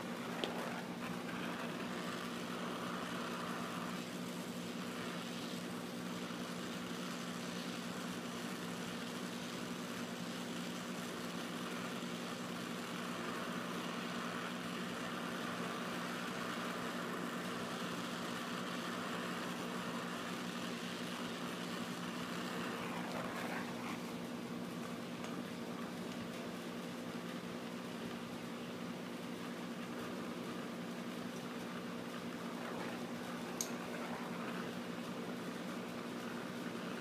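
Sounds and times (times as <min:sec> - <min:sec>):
steady low hum: 0:00.0 - 0:37.0
torch flame hissing: 0:00.0 - 0:37.0.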